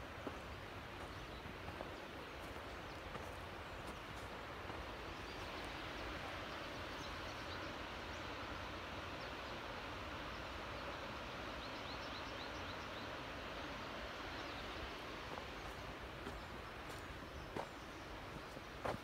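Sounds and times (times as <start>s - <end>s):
background hiss: 0.0s - 19.0s
small birds chirping: 0.0s - 19.0s.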